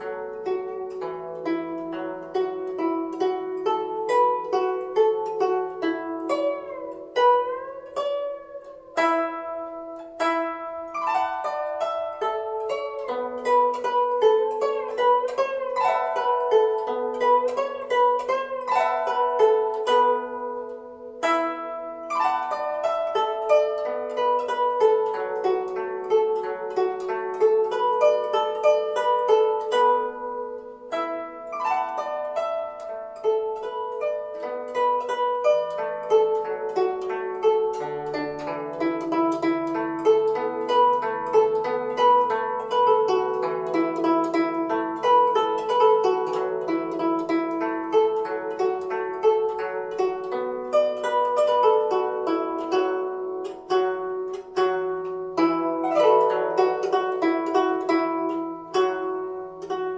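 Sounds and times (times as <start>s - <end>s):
zither plucked melody: 0.0s - 59.9s.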